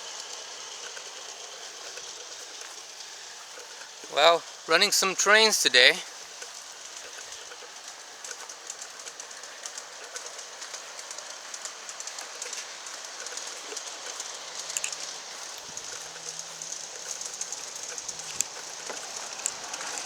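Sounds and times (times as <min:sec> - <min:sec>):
model train wheels clicking on rails: 0:00.0 - 0:20.0
steady hiss: 0:00.0 - 0:20.0.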